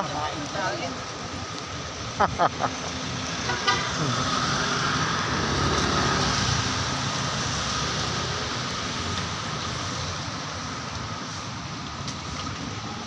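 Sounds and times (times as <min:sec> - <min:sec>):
car engines passing: 0:00.0 - 0:13.0
tyres hissing on wet road: 0:00.0 - 0:13.0.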